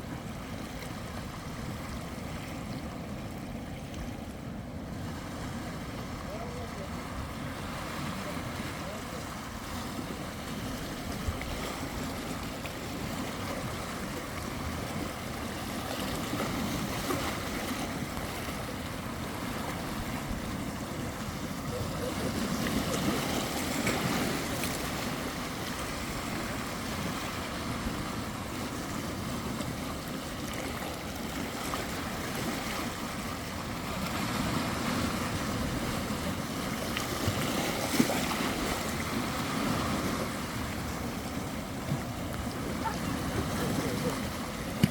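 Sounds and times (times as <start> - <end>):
sea waves breaking on shore: 0.0 - 44.9.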